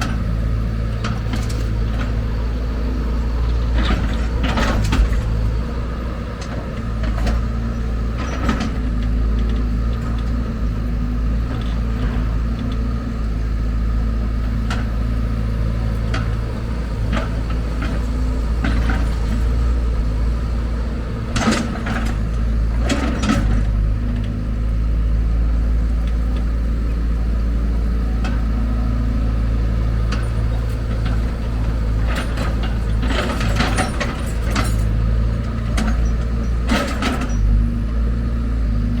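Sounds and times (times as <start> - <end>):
diesel engine of heavy machinery: 0.0 - 39.0.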